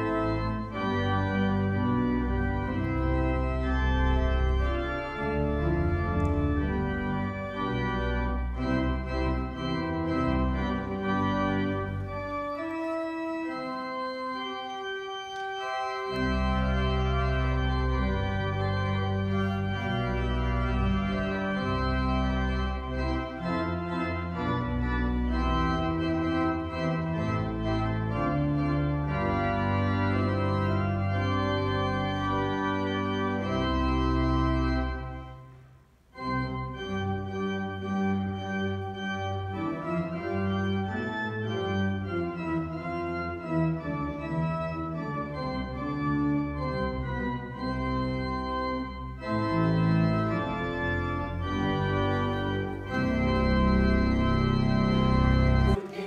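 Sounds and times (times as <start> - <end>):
deep organ pedal bass: 0.0 - 35.5, 36.1 - 55.8
pipe organ chords: 0.0 - 55.8.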